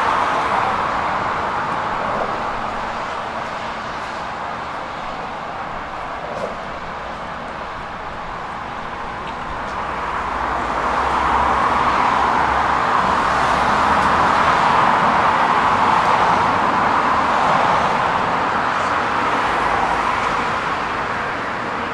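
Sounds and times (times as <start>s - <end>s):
road traffic passing: 0.0s - 21.9s.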